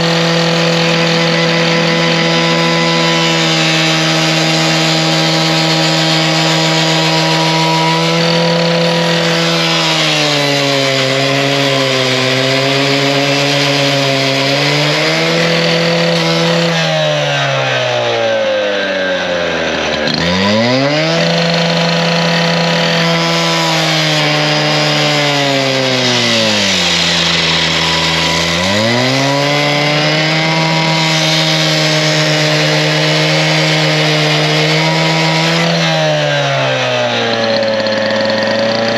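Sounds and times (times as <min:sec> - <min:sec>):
blade grinding through steel: 0:00.0 - 0:38.9
cut-off saw engine at full throttle: 0:00.0 - 0:38.9.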